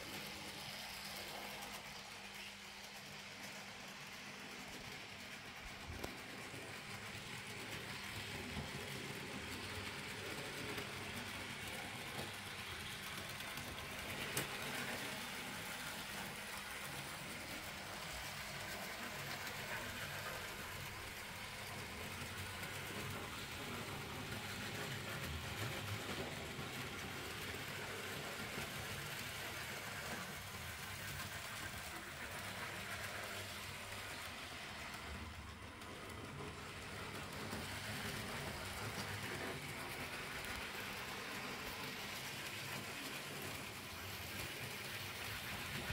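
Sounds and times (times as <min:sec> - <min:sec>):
model locomotive running on track: 0:00.0 - 0:45.9.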